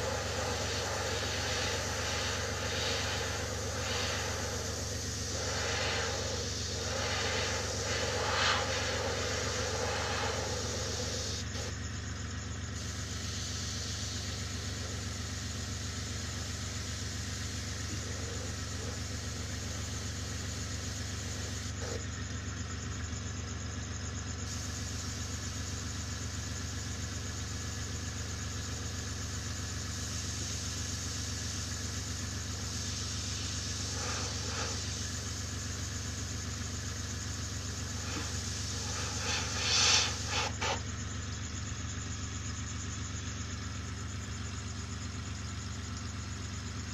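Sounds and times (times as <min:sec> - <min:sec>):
airbrush spraying hiss: 0:00.0 - 0:11.8, 0:12.8 - 0:22.0, 0:24.5 - 0:43.7
air compressor humming: 0:00.0 - 0:46.9.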